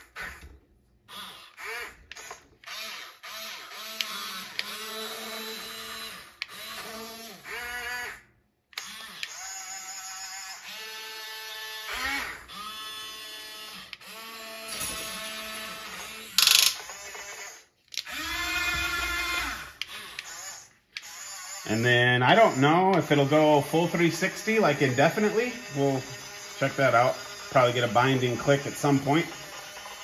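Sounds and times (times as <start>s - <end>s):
simulated engine noise from toy: 1.1s - 30.0s
small electric motors whirring: 1.1s - 30.0s.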